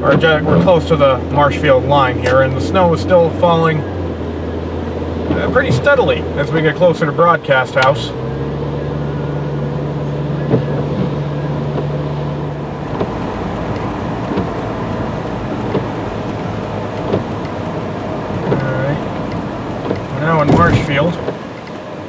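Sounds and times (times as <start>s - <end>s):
car engine: 0.0s - 22.0s
road noise: 0.0s - 22.0s.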